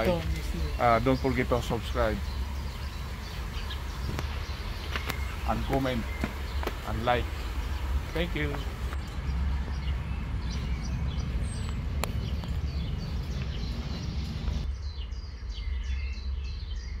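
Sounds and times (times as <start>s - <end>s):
low outdoor rumble: 0.0s - 16.7s
birds chirping: 0.0s - 17.0s.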